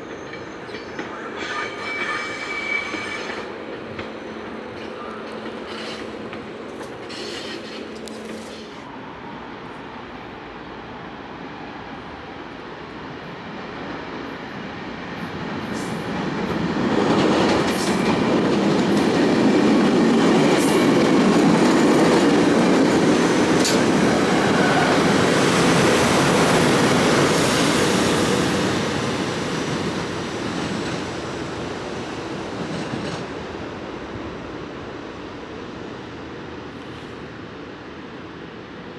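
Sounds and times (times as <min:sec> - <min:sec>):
passenger train wheels rumbling: 0:00.0 - 0:38.9.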